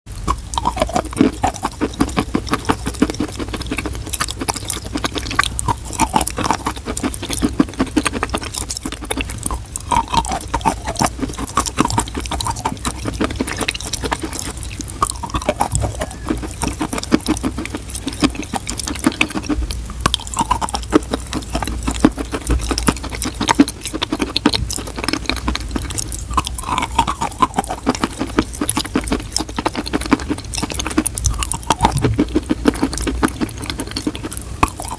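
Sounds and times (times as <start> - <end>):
chalk crunching while chewed: 0.1 - 34.9.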